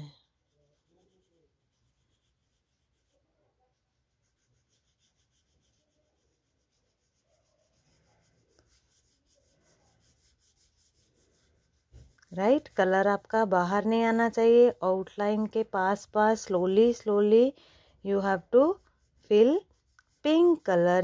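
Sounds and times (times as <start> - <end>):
colouring stick scratching on paper: 0.0 - 21.0.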